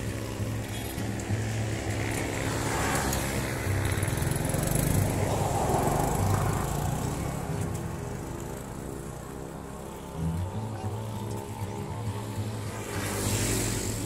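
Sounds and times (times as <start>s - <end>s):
vehicle passing: 0.0s - 14.0s.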